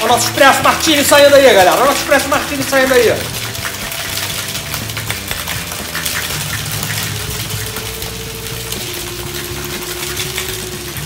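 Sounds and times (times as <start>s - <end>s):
ice rattling in cocktail shaker: 0.0s - 11.0s.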